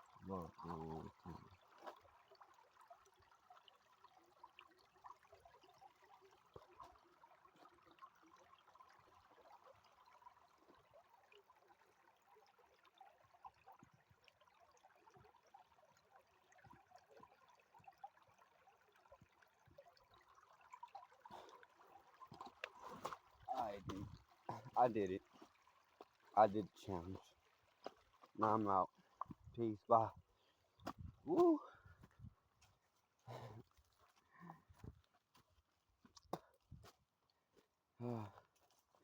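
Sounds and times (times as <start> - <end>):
stream trickling: 0.0 - 39.0.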